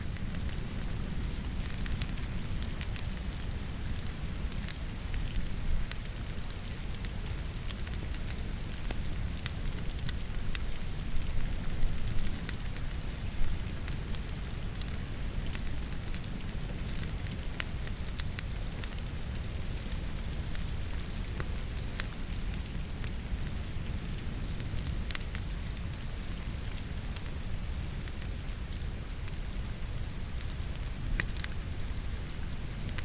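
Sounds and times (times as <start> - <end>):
rain pattering: 0.0 - 33.0
wood fire crackling and popping: 0.0 - 33.0.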